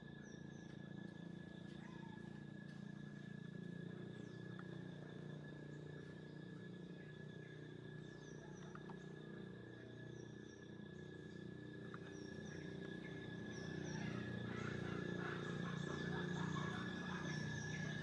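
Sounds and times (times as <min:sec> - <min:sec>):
steady hum: 0:00.0 - 0:18.0
thin continuous whine: 0:00.0 - 0:18.0.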